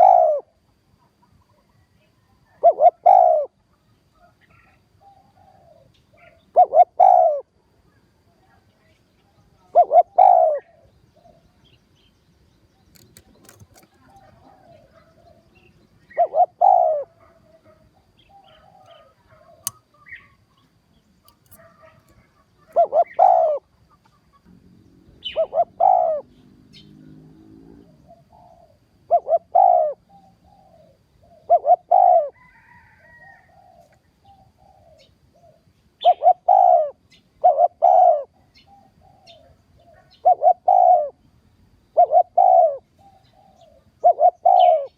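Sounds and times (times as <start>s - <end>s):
dove cooing: 0.0s - 1.8s, 2.4s - 8.0s, 9.6s - 11.6s, 13.0s - 20.4s, 21.3s - 41.2s, 41.9s - 44.9s.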